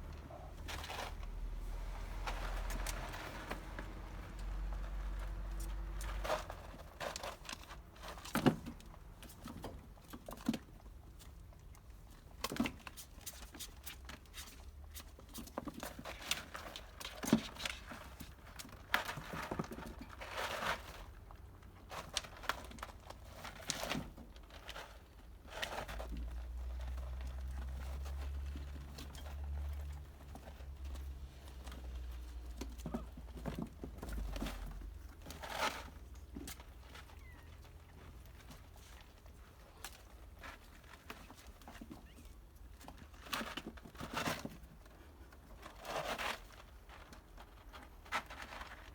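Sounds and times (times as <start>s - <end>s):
rustling on crinkly surface: 0.0s - 48.9s.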